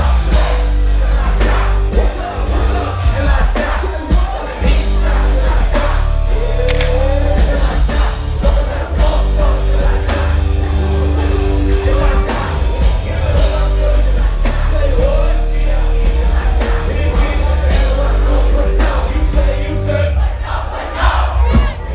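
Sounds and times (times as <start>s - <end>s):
rock hip-hop music with singing: 0.0s - 21.9s.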